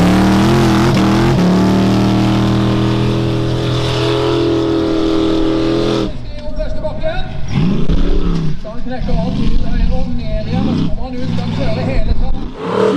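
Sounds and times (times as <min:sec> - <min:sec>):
racing car engine revving: 0:00.0 - 0:06.2, 0:07.3 - 0:12.9.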